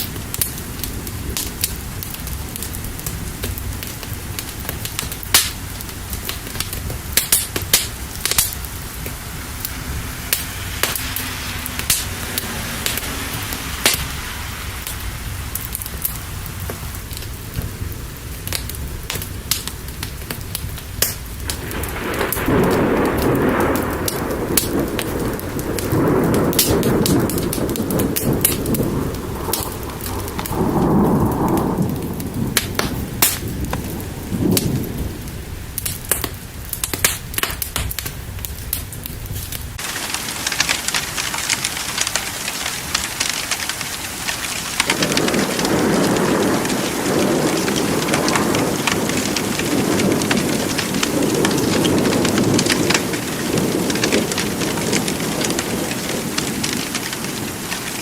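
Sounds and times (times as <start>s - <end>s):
rolling thunder: 0.0s - 58.0s
steady rain: 0.0s - 58.0s
thunder crackles: 0.0s - 58.0s.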